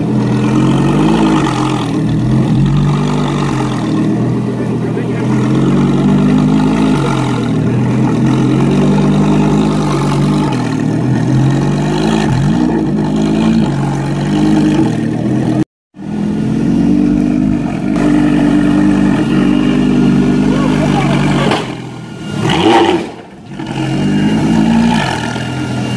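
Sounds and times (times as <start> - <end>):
race car engine idling: 0.0 - 11.6, 12.2 - 22.3
engine throttle blips: 0.0 - 25.9.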